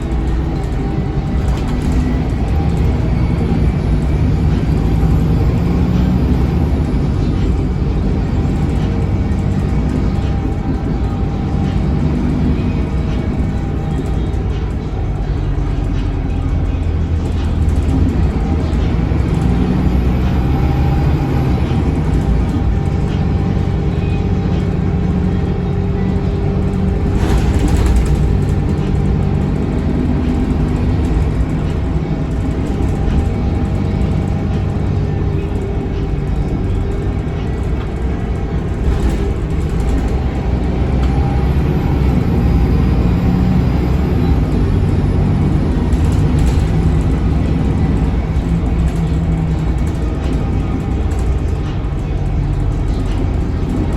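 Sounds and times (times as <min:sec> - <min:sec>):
bus diesel engine running: 0:00.0 - 0:53.9.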